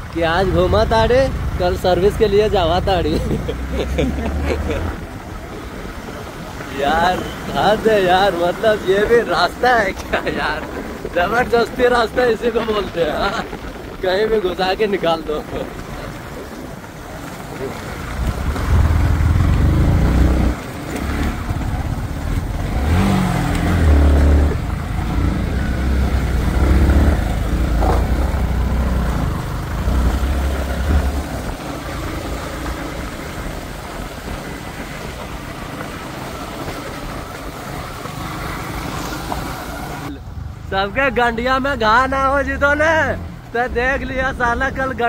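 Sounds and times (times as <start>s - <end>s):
vehicle engine labouring: 0.0s - 45.0s.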